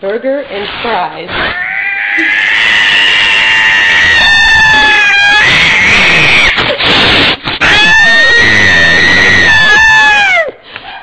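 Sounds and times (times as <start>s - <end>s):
cats yowling: 1.3s - 10.5s.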